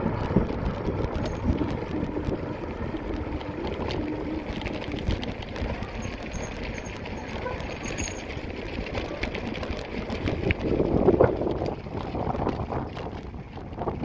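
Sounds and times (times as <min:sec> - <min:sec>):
wheels rattling over cobblestones: 0:00.0 - 0:14.0
wind buffeting microphone: 0:00.0 - 0:14.0.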